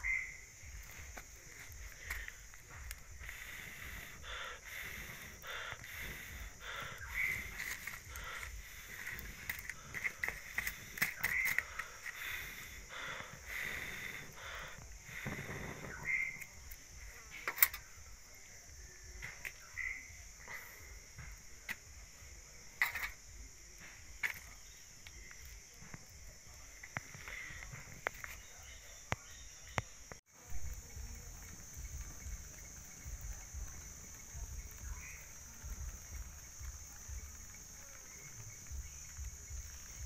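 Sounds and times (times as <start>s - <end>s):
insect drone: 0.0s - 40.0s
wood fire crackling: 0.0s - 40.0s.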